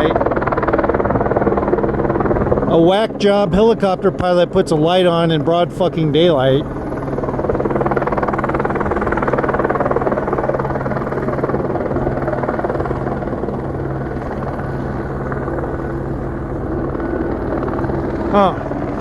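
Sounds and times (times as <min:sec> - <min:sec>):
helicopter rotor chop: 0:00.0 - 0:19.0
low engine drone: 0:00.0 - 0:19.0.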